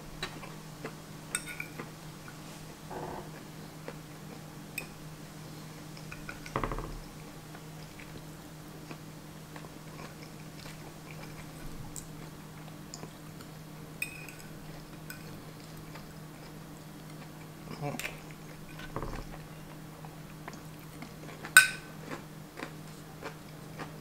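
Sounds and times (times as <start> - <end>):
person chewing food: 0.2 - 5.0, 7.5 - 13.6, 14.4 - 24.0.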